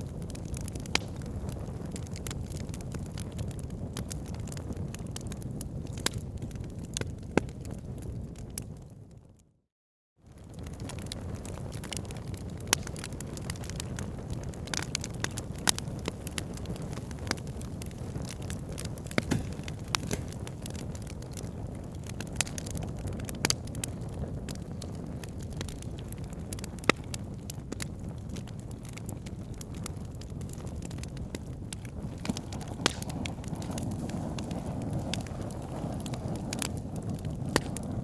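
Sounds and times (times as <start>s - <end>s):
fire flames rushing: 0.0s - 8.7s, 10.4s - 38.0s
burning wood crackling and popping: 0.0s - 9.2s, 10.3s - 38.0s.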